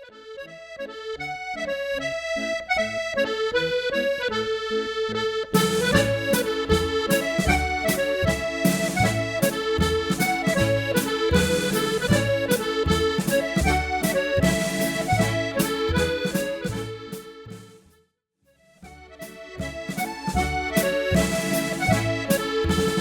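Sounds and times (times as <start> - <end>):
accordion dance tune: 0.0 - 17.9, 18.8 - 23.0.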